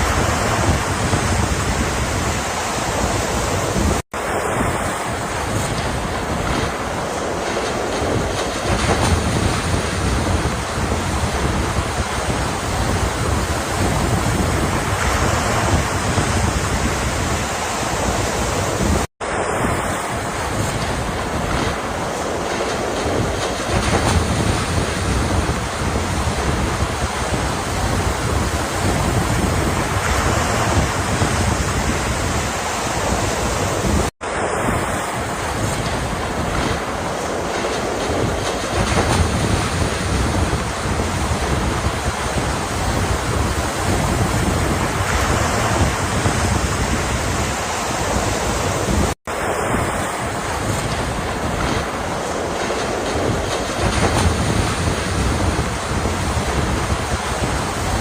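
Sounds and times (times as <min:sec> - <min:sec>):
ocean surf washing: 0:00.0 - 0:58.0
wind rumbling on microphone: 0:00.0 - 0:58.0.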